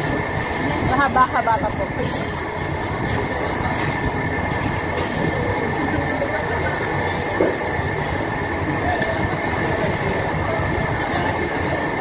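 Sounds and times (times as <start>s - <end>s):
background chatter: 0.0s - 12.0s
faint steady whine: 0.0s - 12.0s
ventilation roar: 0.0s - 12.0s.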